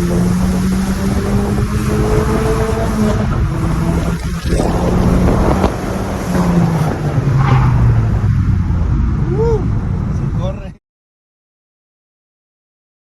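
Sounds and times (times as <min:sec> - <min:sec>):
car engine accelerating: 0:00.0 - 0:10.5.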